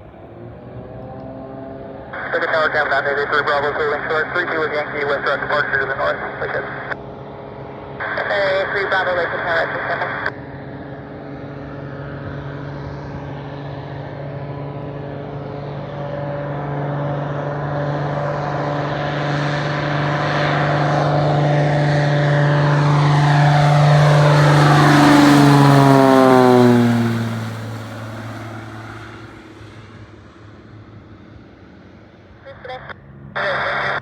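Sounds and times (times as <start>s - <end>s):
propeller plane engine drone: 0.0s - 34.0s.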